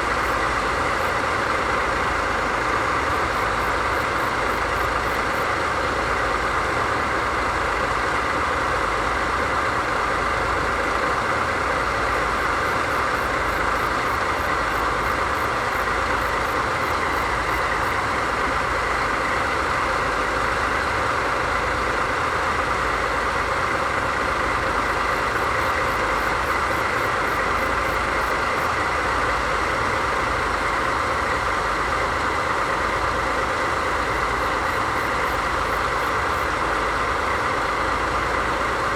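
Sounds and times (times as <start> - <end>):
locomotive diesel engines idling: 0.0 - 38.9.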